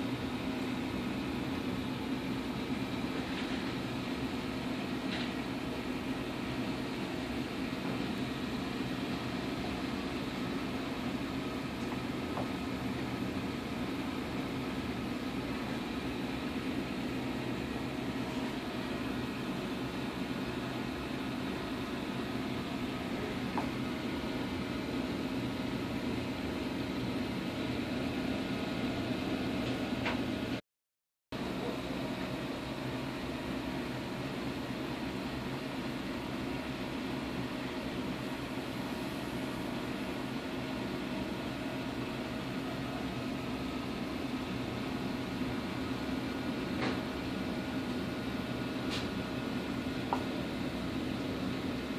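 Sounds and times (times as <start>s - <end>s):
aquarium pumps humming: 0.0s - 30.6s, 31.4s - 51.9s.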